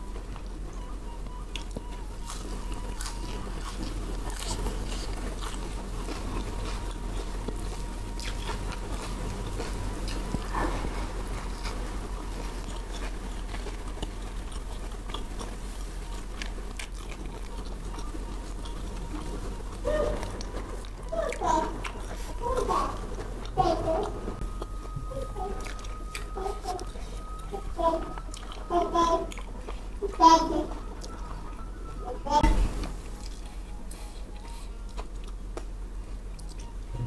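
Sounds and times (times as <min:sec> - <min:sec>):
person chewing crunchy food: 0:00.0 - 0:32.1, 0:32.8 - 0:37.0.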